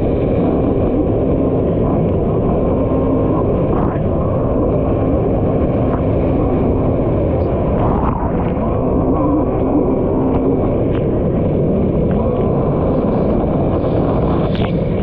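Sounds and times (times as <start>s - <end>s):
jet ski engine running hard: 0.0s - 15.0s.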